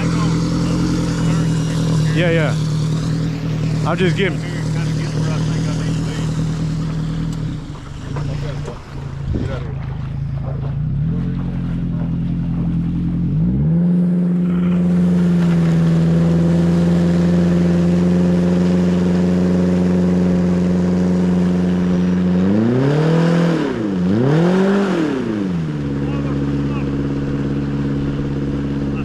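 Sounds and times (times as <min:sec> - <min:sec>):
boat motor running: 0:00.0 - 0:29.0.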